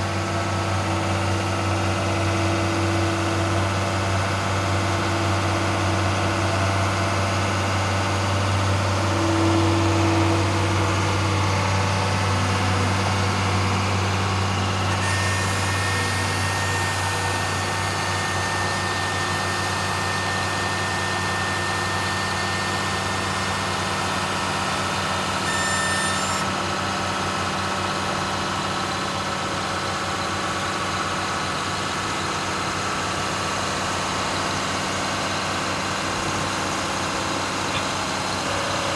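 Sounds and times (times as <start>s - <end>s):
diesel engine running: 0.0s - 25.4s, 26.4s - 38.9s.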